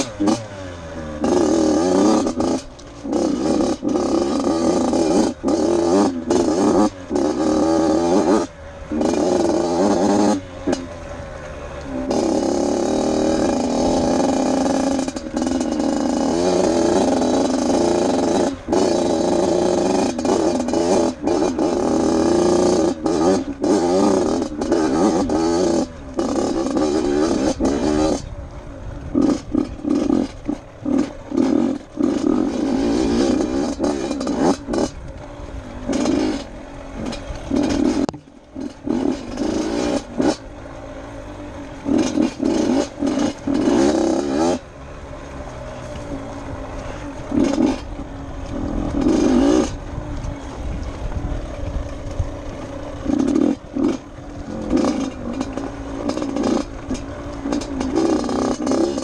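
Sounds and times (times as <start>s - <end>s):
off-road motorcycle engine: 0.0s - 59.0s.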